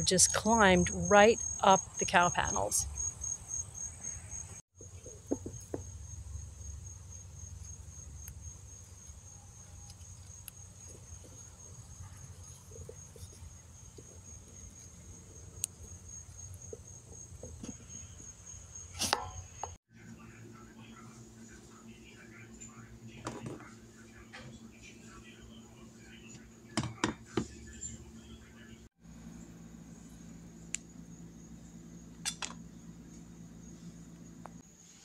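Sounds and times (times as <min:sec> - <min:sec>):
crickets trilling: 0:00.0 - 0:22.9, 0:29.0 - 0:35.0.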